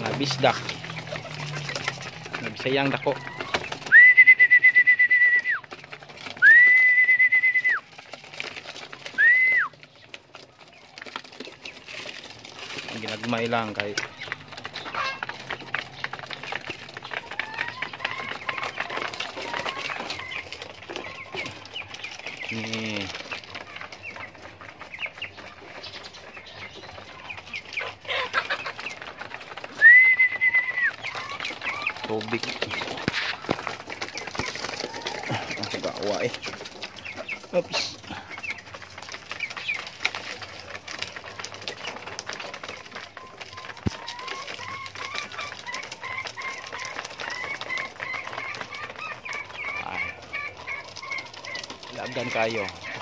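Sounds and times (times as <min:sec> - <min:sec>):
birds chirping: 0:00.0 - 0:53.0
pigeons pecking on plastic feeder: 0:00.0 - 0:53.0.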